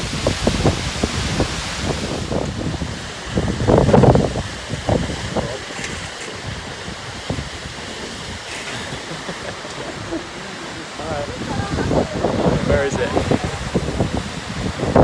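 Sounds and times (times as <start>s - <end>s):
steady rushing outdoor noise: 0.0s - 15.0s
wind gusting against microphone: 0.0s - 15.0s.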